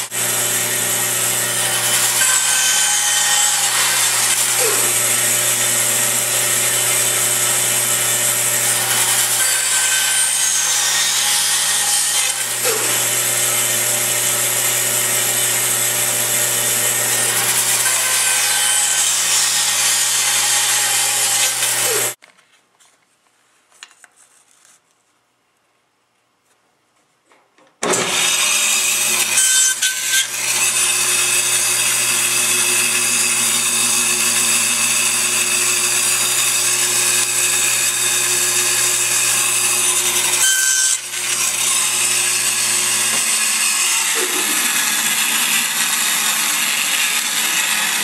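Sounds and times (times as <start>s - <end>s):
band saw cutting wood: 0.0s - 22.2s, 27.9s - 48.0s.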